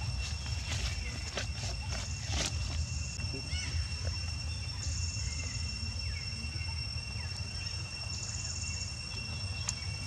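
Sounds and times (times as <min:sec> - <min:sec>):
cricket trills: 0:00.0 - 0:10.0
high-pitched insect drone: 0:00.0 - 0:10.0.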